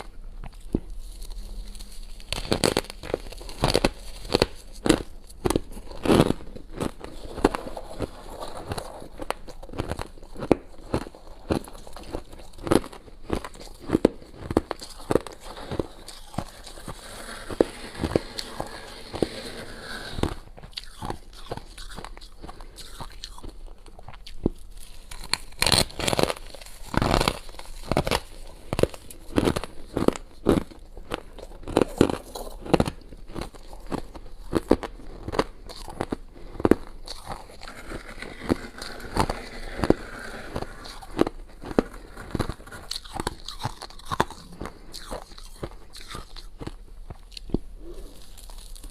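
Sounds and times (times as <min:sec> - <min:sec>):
frost being bitten and chewed: 0:00.0 - 0:17.6, 0:20.4 - 0:38.6, 0:39.2 - 0:48.9.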